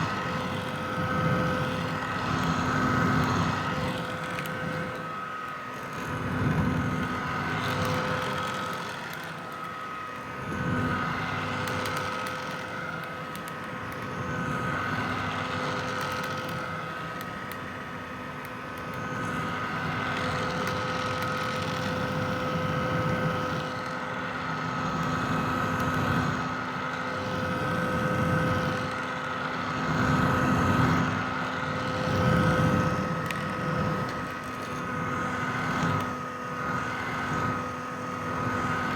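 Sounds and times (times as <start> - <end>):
hair dryer motor whine: 0.0 - 38.9.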